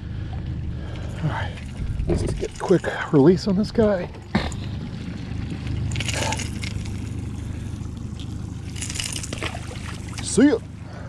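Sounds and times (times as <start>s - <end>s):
steady low rumble: 0.0s - 11.0s
water sloshing against boat: 0.0s - 11.0s.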